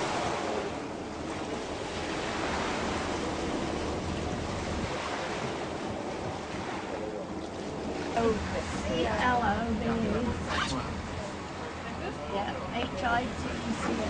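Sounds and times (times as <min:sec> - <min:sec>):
wind and sea water rushing: 0:00.0 - 0:14.0.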